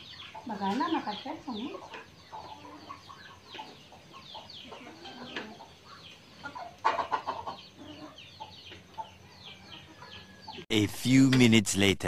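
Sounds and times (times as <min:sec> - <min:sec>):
chickens clucking: 0:00.0 - 0:10.7.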